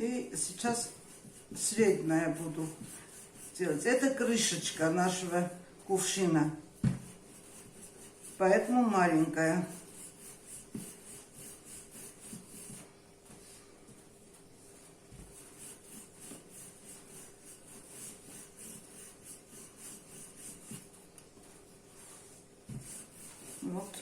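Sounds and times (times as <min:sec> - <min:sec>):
rolling pin rolling dough: 0:00.0 - 0:24.0.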